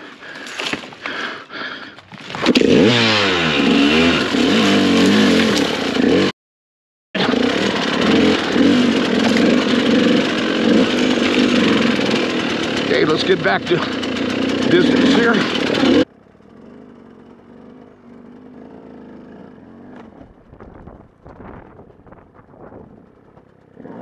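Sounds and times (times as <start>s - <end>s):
dirt bike rattling and scraping: 0.0s - 6.3s, 7.2s - 24.0s
dirt bike engine revving: 1.0s - 6.3s, 7.2s - 24.0s.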